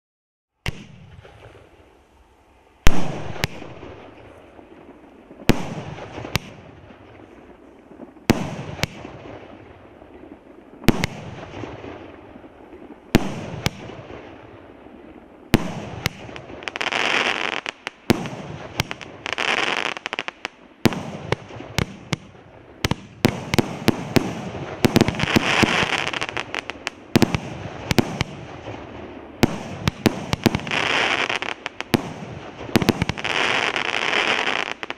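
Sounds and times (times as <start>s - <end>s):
fireworks bangs: 0.6s - 34.9s
fireworks crackling: 0.7s - 34.9s.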